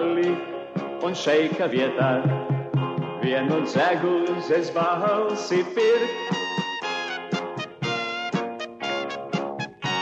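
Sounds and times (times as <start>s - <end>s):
instrumental band music: 0.0s - 10.0s.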